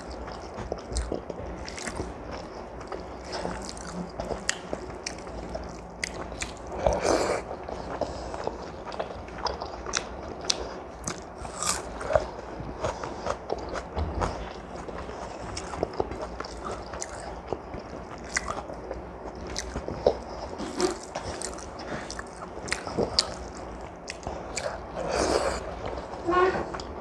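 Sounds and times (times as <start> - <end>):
person chewing and eating: 0.0 - 27.0.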